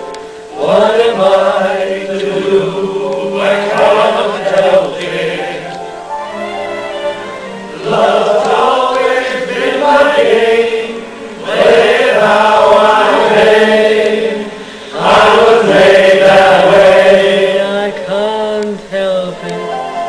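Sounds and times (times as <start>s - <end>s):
music with singing voices: 0.0s - 20.0s.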